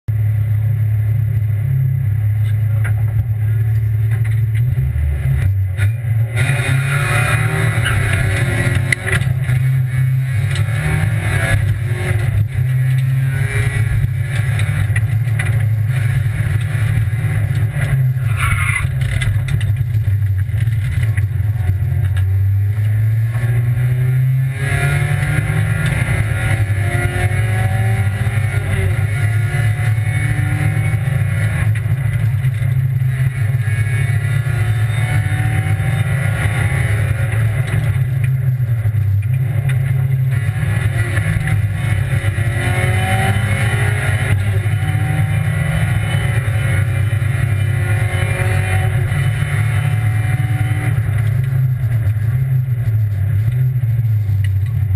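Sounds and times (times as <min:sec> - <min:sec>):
rally car engine revving: 0:00.1 - 0:54.9.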